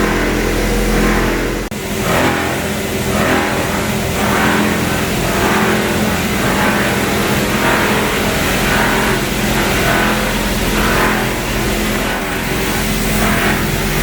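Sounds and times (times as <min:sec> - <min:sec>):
low motor hum: 0:00.0 - 0:14.0
machine grinding noise: 0:00.0 - 0:14.0.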